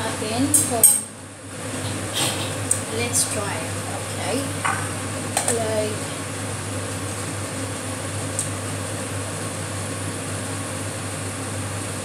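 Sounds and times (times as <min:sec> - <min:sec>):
kitchen extractor fan whirring: 0:00.0 - 0:12.0.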